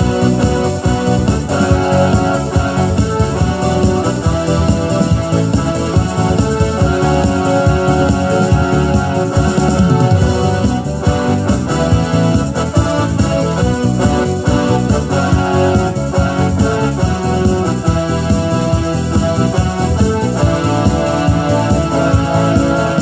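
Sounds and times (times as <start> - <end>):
electronic keyboard playing gospel song: 0.0 - 23.0.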